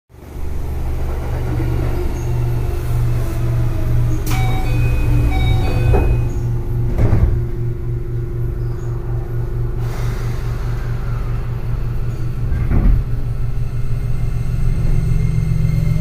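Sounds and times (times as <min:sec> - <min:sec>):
pulsing low equipment hum: 0:00.2 - 0:16.0.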